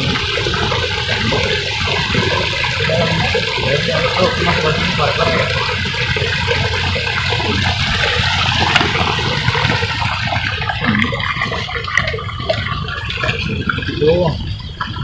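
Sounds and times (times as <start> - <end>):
stream rushing: 0.0 - 13.8.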